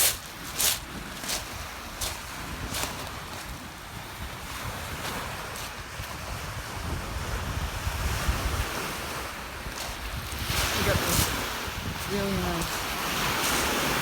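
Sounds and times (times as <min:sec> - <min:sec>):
waves on lake shore: 0:00.0 - 0:14.0
wind buffeting microphone: 0:00.0 - 0:14.0.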